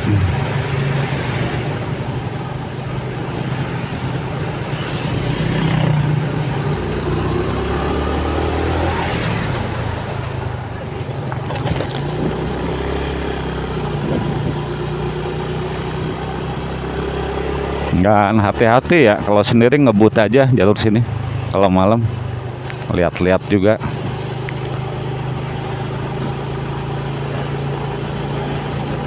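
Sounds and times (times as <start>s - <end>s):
motorcycle engine running: 0.0s - 18.1s, 20.8s - 29.0s
road and wind noise: 0.0s - 29.0s.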